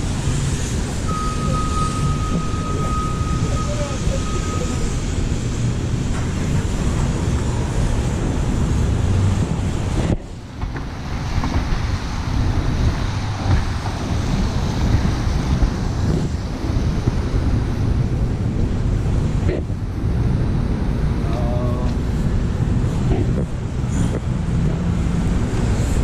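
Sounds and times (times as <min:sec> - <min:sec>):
street noise: 0:00.0 - 0:26.0
wind on microphone: 0:00.0 - 0:26.0.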